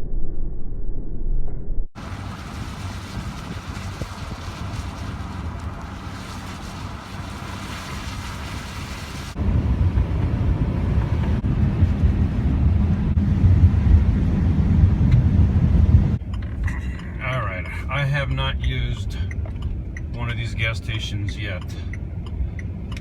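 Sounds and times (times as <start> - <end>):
vehicle driving rumble: 1.8 - 23.0.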